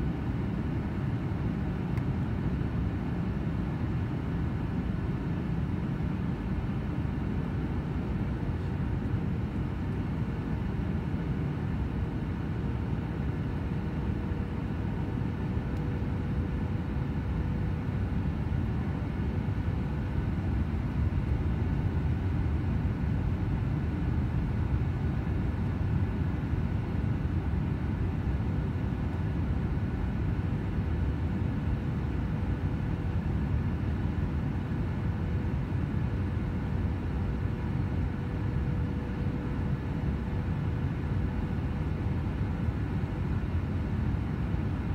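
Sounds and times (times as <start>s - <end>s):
faint steady hum: 0.0s - 44.9s
jet engines and airflow rushing: 0.0s - 44.9s.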